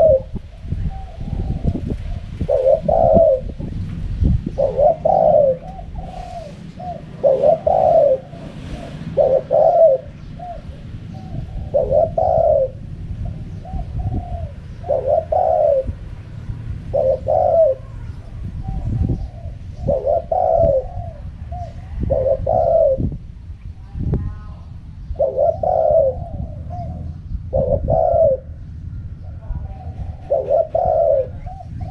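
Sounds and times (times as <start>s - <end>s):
dove cooing: 0.0s - 3.8s, 4.4s - 31.9s
low rumble: 0.0s - 31.9s.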